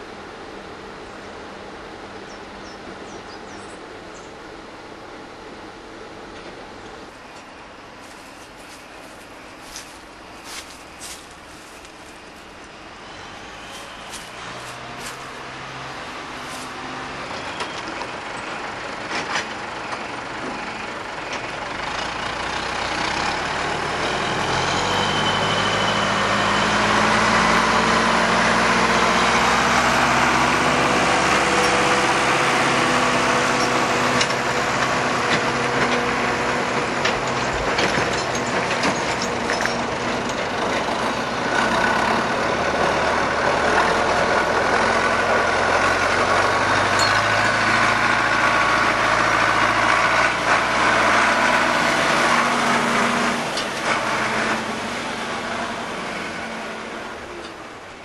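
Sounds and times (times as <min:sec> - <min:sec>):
tractor diesel engine: 0:03.8 - 0:58.0.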